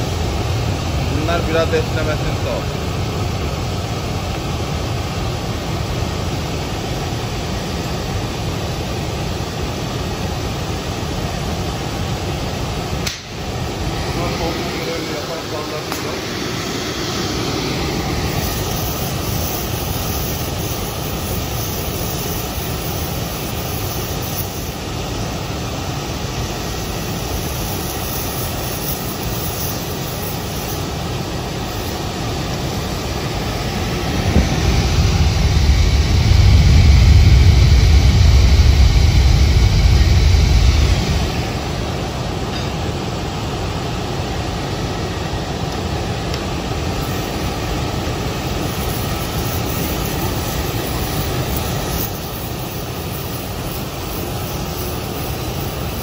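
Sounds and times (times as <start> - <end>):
torch flame burning: 0.0 - 56.0.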